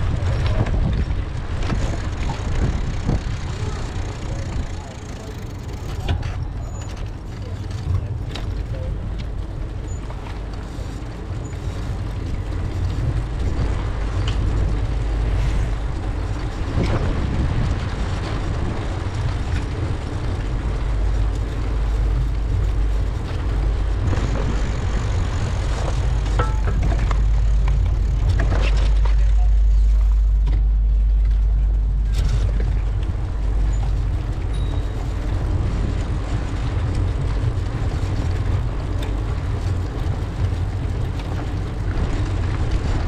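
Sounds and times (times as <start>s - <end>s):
road noise: 0.0s - 43.0s
wind buffeting microphone: 0.0s - 43.0s.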